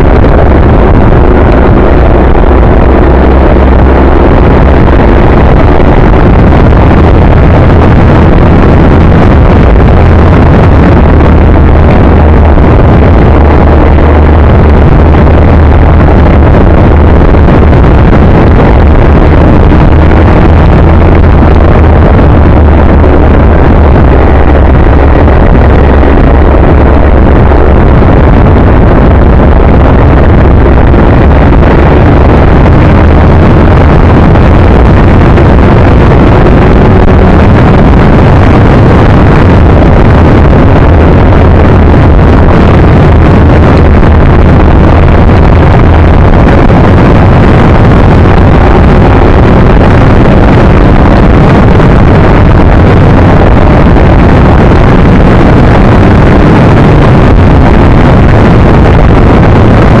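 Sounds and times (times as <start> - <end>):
motorcycle engine drone: 0.0 - 60.0
wind noise on microphone: 0.0 - 60.0.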